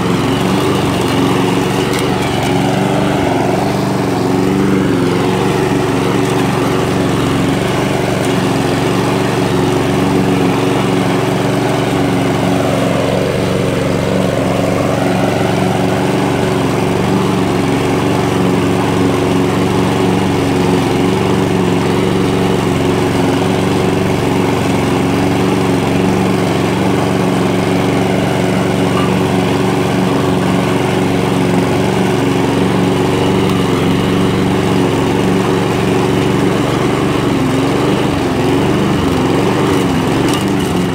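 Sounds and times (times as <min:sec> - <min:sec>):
lawn mower cutting grass: 0:00.0 - 0:40.9.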